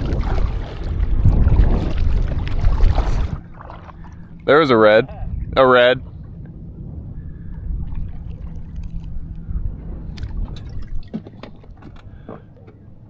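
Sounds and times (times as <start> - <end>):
water lapping and dripping: 0.0 - 5.0, 6.0 - 13.0
low steady rumble: 0.0 - 13.0.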